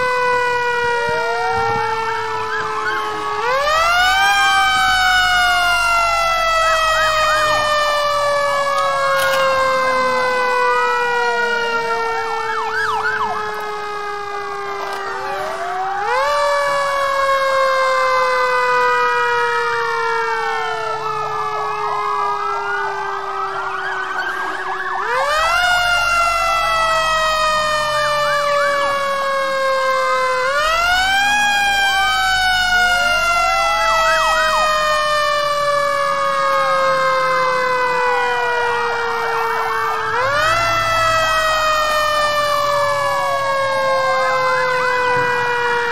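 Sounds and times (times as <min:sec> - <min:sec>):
fire engine siren wailing: 0:00.0 - 0:45.9
other sirens wailing: 0:00.0 - 0:45.9.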